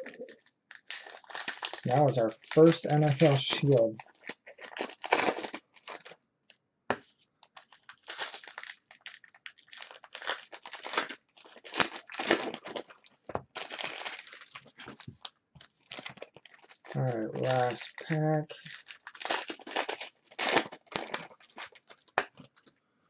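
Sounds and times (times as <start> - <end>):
plastic foil wrappers crinkling: 0.0 - 6.2, 7.4 - 22.6.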